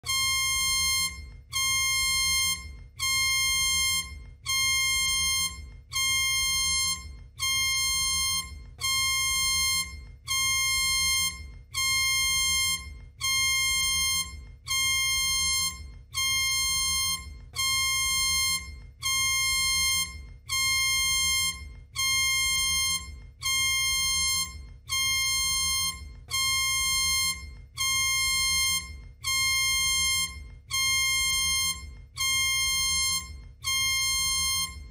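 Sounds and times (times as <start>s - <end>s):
electronic alarm tone: 0.0s - 34.9s.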